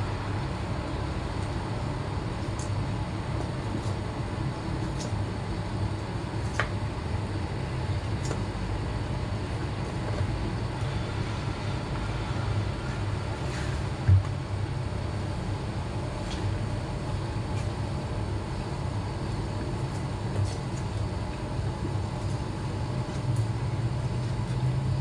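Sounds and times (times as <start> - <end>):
low hum and hiss: 0.0 - 25.0.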